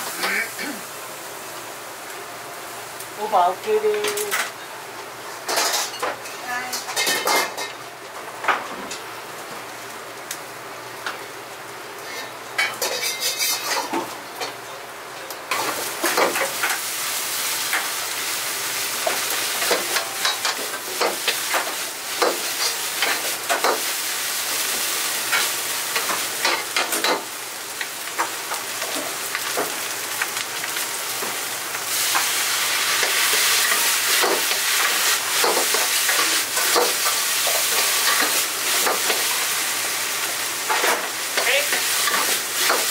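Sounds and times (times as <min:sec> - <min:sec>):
rice sizzling in a wok: 0:00.0 - 0:42.9.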